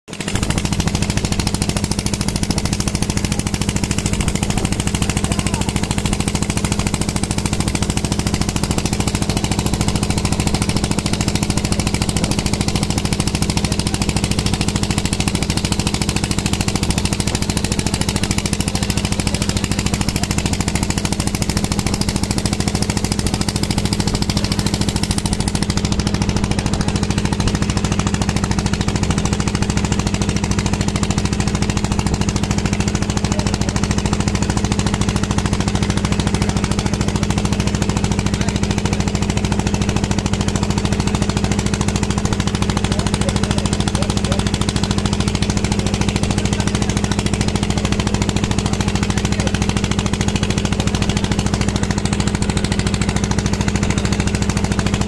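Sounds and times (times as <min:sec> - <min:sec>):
boat engine running: 0:00.1 - 0:55.0.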